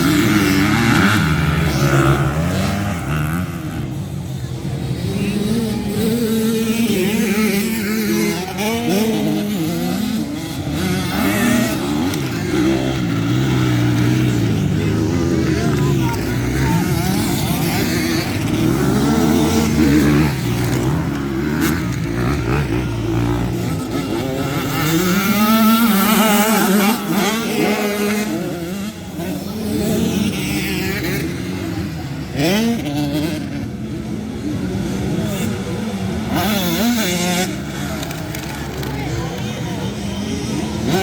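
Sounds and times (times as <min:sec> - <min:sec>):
motocross bikes racing past: 0:00.0 - 0:41.0.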